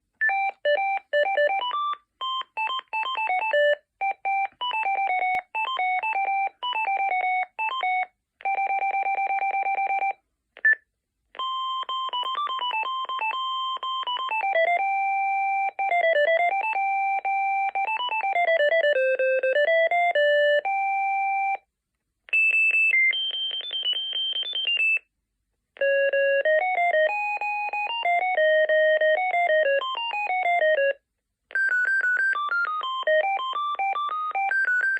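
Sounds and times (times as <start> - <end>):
electronic beeping ringtone melodies: 0.2 - 10.2, 11.4 - 21.6, 22.7 - 25.0, 25.8 - 34.9.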